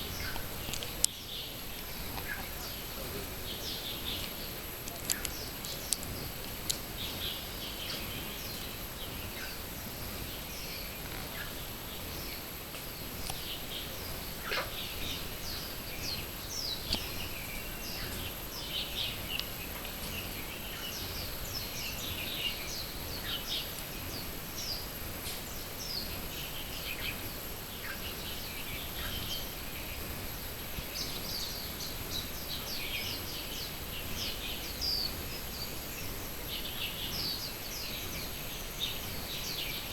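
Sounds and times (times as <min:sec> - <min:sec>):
small birds chirping: 0:00.0 - 0:39.9
steady hiss: 0:00.0 - 0:39.9.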